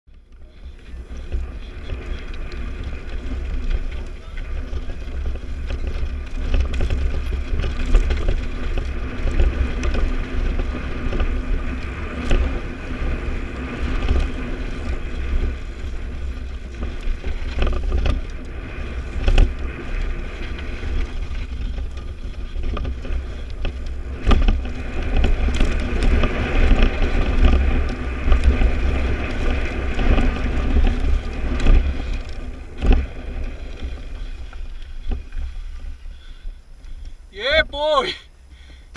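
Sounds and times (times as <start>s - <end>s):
bike knocking and rattling: 0.1s - 38.9s
wind rumble on microphone: 0.1s - 38.9s.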